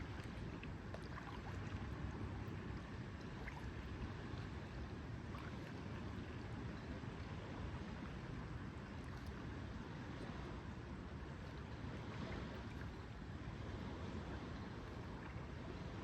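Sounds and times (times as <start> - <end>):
water gently lapping: 0.0 - 16.0.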